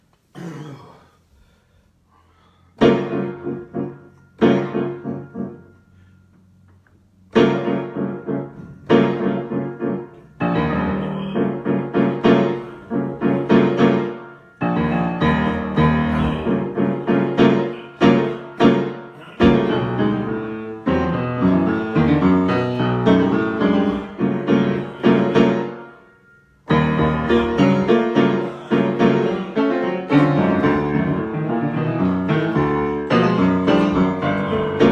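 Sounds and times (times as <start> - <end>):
solo piano playing: 2.8 - 34.9.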